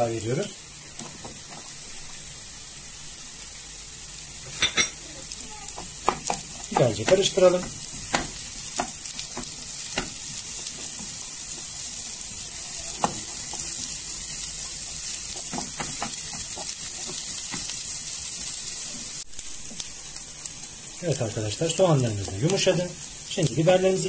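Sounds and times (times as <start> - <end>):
vegetables sizzling in a frying pan: 0.0 - 24.0.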